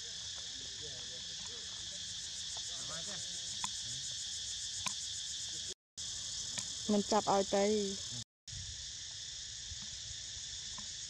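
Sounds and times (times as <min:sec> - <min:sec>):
high insect chorus: 0:00.0 - 0:11.0.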